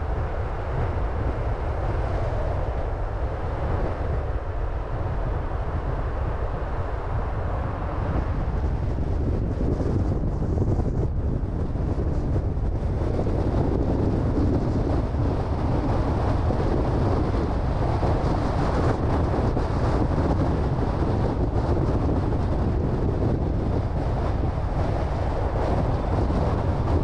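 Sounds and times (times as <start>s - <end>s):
car tyres and engine rumble: 0.0s - 27.0s
wind noise on microphone: 0.0s - 27.0s.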